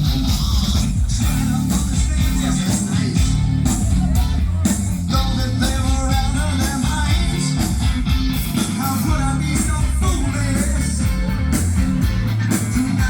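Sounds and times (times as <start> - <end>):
rock band playing live: 0.0 - 13.0
singer or lead guitar: 0.0 - 13.0.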